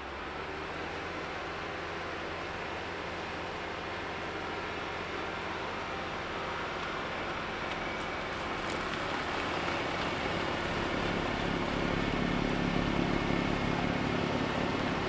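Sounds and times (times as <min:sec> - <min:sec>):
diesel tractor running: 0:00.0 - 0:15.0
snowblower running: 0:00.0 - 0:15.0.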